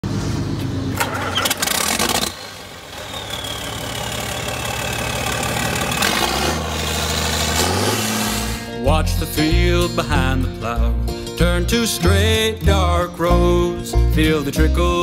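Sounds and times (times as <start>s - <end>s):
diesel tractor engine starting: 0.0s - 15.0s.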